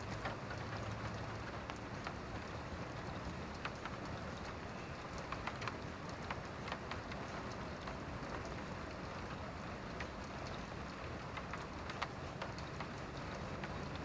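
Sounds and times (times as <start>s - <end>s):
raindrops ticking sharply: 0.0s - 14.0s
steady rain hiss: 0.0s - 14.0s.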